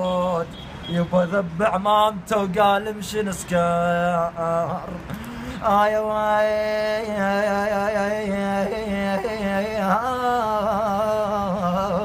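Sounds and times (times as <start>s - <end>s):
man singing wordless trills: 0.0s - 12.0s.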